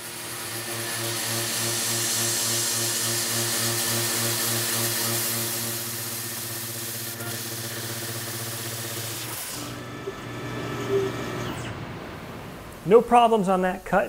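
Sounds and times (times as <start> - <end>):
end mill cutting steel: 0.0 - 13.3
coolant nozzle hissing: 0.1 - 12.9.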